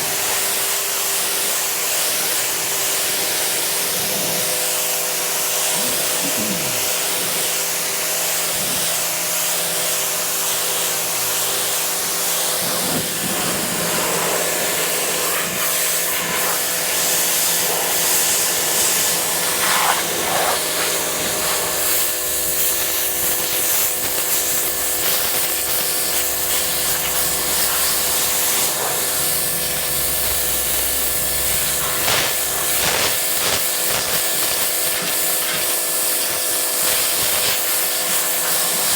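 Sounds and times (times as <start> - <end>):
high-pressure water jet hissing: 0.0 - 38.9
pressure washer motor humming: 0.0 - 38.9.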